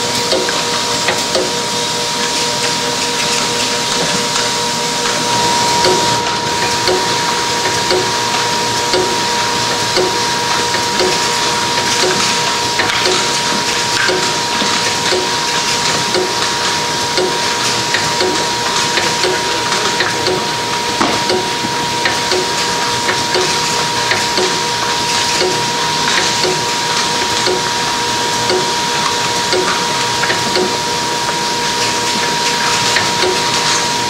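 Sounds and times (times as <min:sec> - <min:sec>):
machine hiss and whine: 0:00.0 - 0:34.0
machine ticking: 0:00.2 - 0:01.6, 0:05.3 - 0:31.5, 0:32.9 - 0:33.8.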